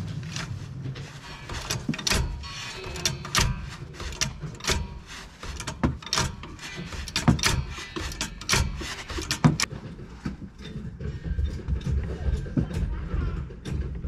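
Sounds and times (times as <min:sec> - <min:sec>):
metallic clicks and knocks: 0:00.0 - 0:14.0.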